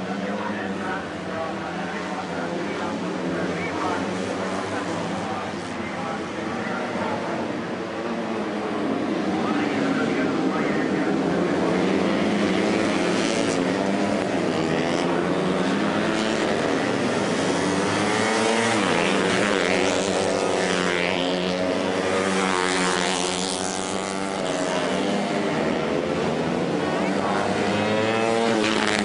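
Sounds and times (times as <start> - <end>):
racing motorcycle engines revving: 0.0 - 29.0.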